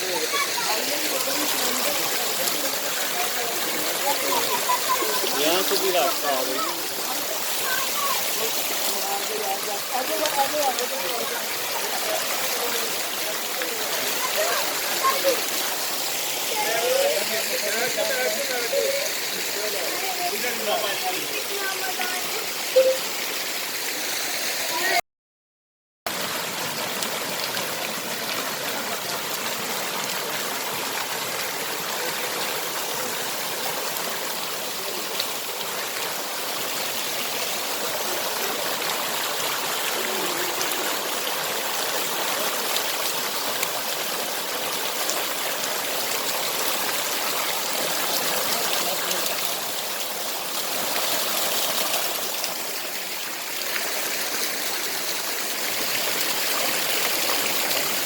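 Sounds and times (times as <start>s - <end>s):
waterfall rushing: 0.0s - 25.0s, 26.1s - 58.0s.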